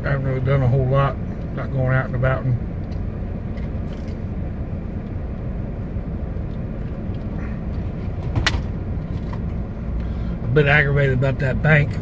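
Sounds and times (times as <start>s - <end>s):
car idling with air conditioning: 0.0s - 12.0s.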